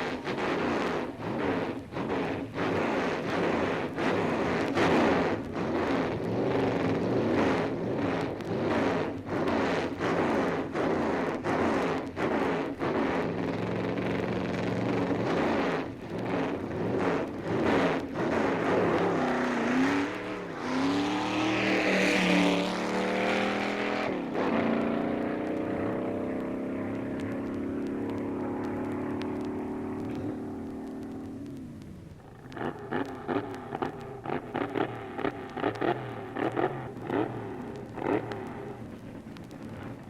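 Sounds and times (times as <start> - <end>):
racing car engine revving: 0.0 - 31.6, 32.4 - 40.0.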